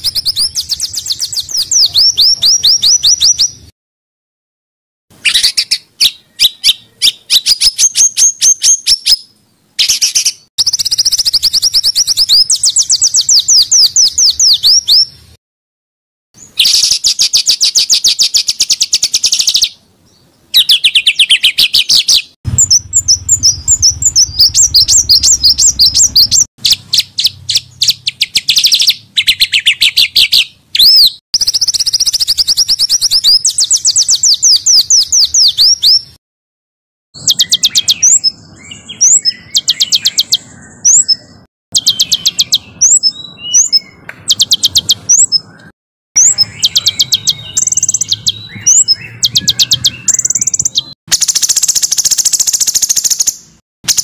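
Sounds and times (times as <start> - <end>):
songbirds rapid chirping: 0.0 - 3.7, 5.1 - 15.4, 16.4 - 36.2, 37.2 - 54.0.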